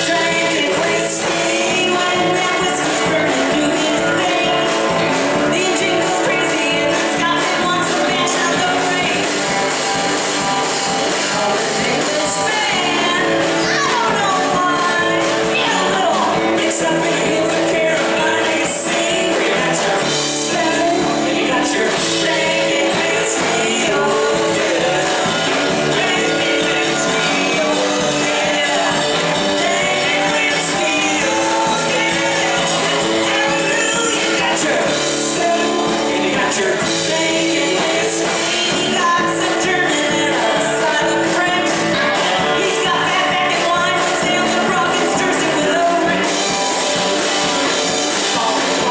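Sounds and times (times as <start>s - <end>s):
electric guitar: 0.0s - 48.9s
live country-rock band: 0.0s - 48.9s
man and woman singing: 0.0s - 48.9s
strummed acoustic guitar: 0.0s - 48.9s.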